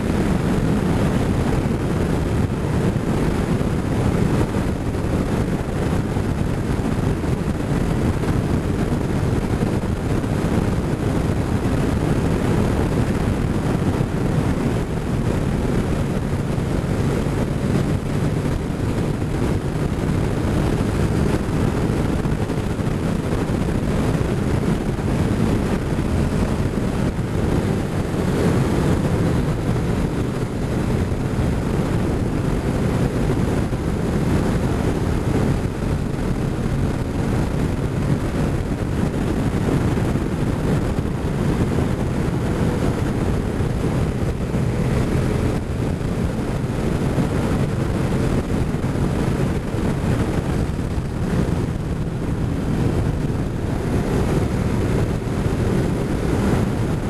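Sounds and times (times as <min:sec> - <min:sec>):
motorcycle engine: 0:00.0 - 0:57.0
wind buffeting microphone: 0:00.0 - 0:57.0.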